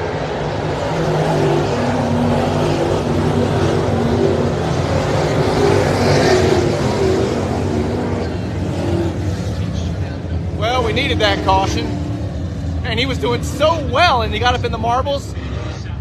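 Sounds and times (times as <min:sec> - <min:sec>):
race car engines roaring: 0:00.0 - 0:16.0.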